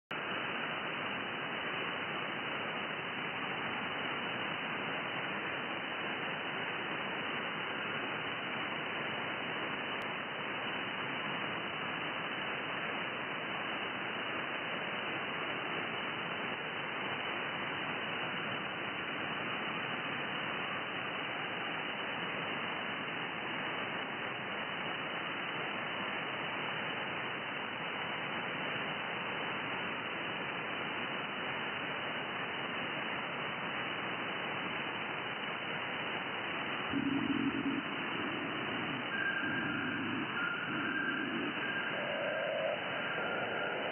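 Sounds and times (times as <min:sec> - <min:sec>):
radio static hiss: 0:00.1 - 0:43.9.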